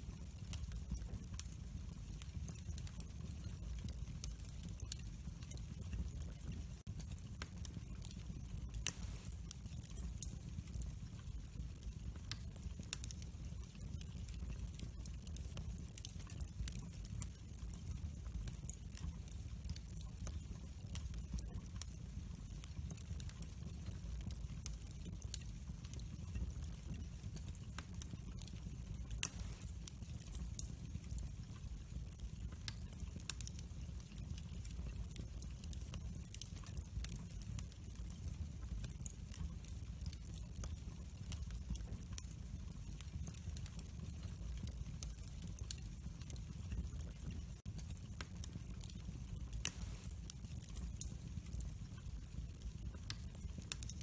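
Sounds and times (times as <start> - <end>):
fire popping: 0.0 - 54.0
low fire rumble: 0.0 - 54.0
firewood crackling and snapping: 0.2 - 31.4, 32.0 - 54.0.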